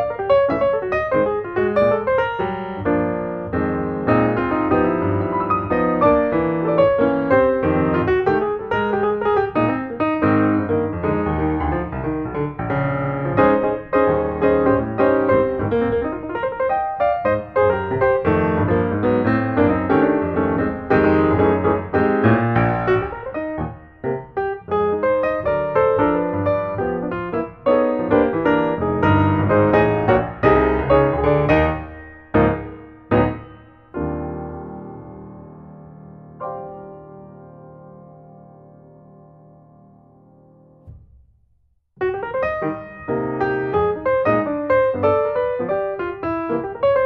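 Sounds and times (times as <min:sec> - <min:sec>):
piano music: 0:00.0 - 0:41.1, 0:42.0 - 0:47.0.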